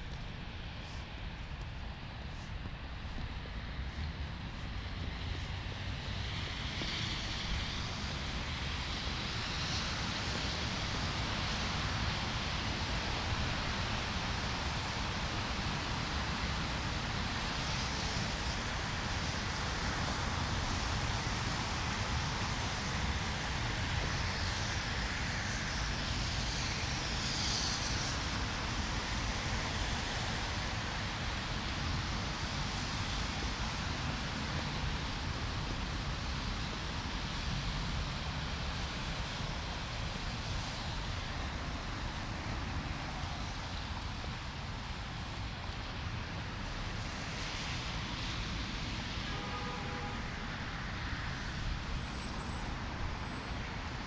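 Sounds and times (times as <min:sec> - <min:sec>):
blizzard wind rushing: 0:00.0 - 0:49.3
city traffic rumble: 0:00.0 - 0:54.0.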